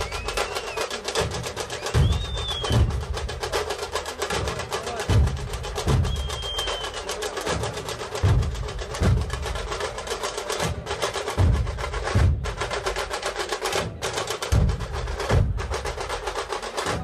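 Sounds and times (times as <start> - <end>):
deep drum beats: 0.0 - 17.0
rapid snare drum rattle: 0.0 - 17.0.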